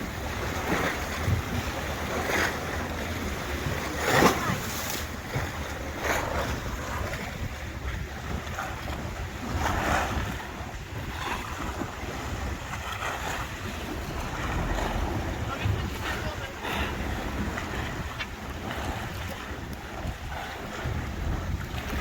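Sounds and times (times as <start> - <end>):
boat engine low rumble: 0.0 - 22.0
water rushing past hull: 0.0 - 22.0
wind buffeting microphone: 0.0 - 22.0.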